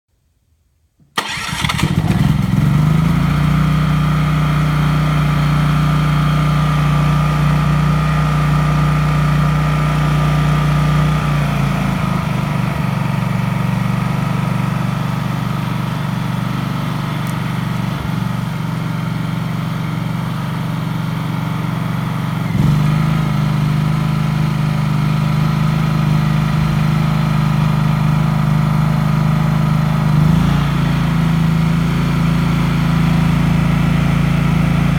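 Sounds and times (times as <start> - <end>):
generator engine running: 1.2 - 34.9.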